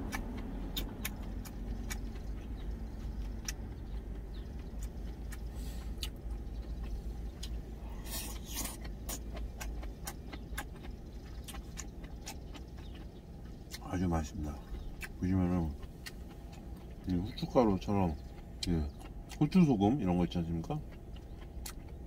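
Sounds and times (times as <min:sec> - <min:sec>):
low rumble inside truck cab: 0:00.0 - 0:22.0.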